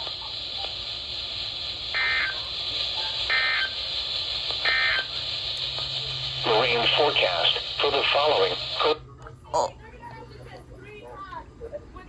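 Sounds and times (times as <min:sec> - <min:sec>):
radio hiss: 0:00.0 - 0:09.7.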